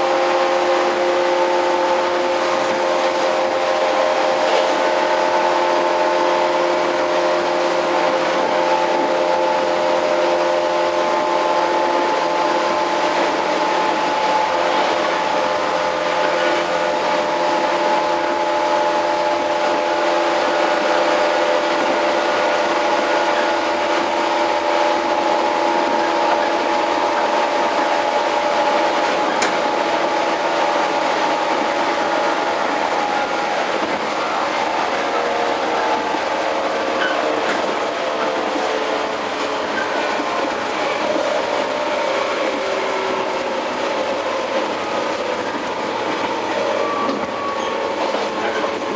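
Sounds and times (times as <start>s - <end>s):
train wheels on rail: 0.0s - 48.9s.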